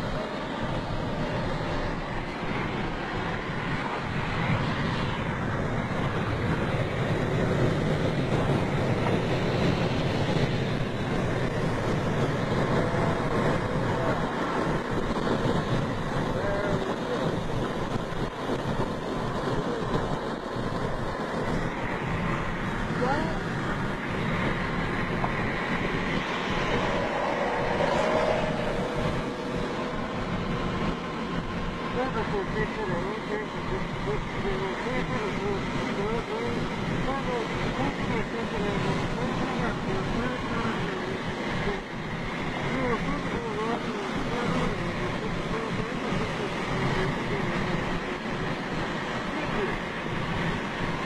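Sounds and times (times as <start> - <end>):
road and wind noise in car: 0.0 - 51.0.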